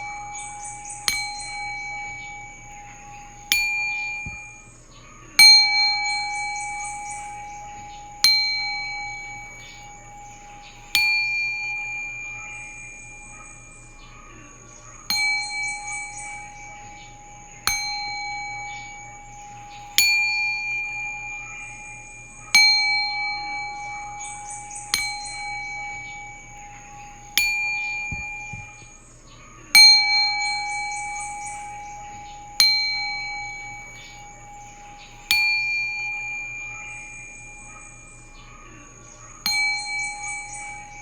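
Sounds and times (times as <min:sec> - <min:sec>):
singing bowl ringing: 0:00.0 - 0:41.0.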